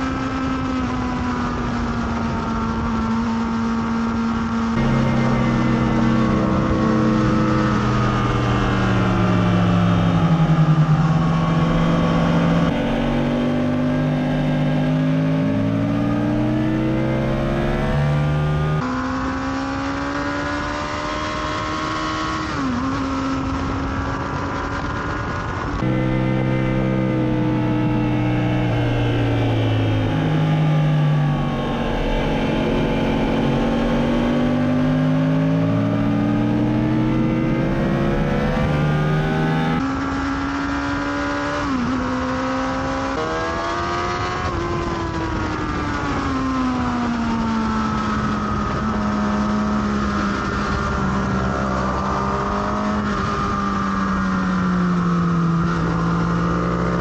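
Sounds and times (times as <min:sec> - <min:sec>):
motorcycle engine at speed: 0:00.0 - 0:57.0.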